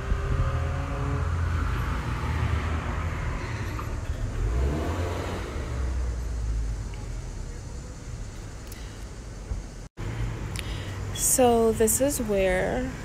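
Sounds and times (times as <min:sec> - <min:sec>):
car engine: 0:00.0 - 0:11.2
traffic rumble: 0:00.0 - 0:13.0.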